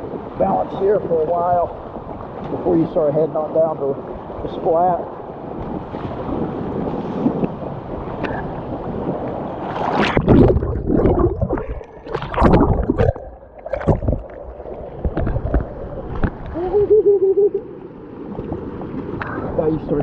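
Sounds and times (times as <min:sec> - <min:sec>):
paddle strokes splashing: 0:01.7 - 0:19.9.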